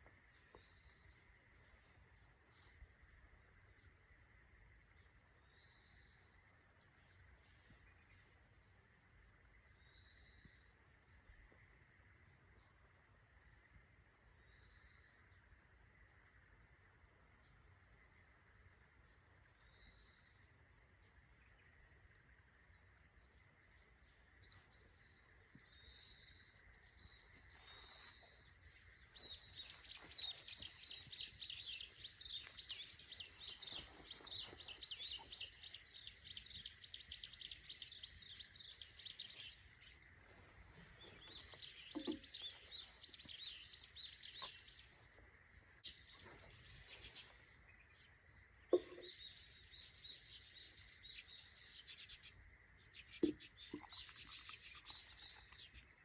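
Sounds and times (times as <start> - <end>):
faint birdsong chirps and twittering: 0.0 - 56.0.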